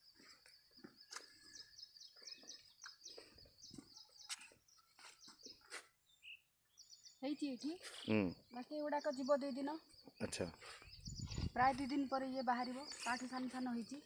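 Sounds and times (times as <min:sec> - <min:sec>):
high bird chirps: 0:00.0 - 0:14.0.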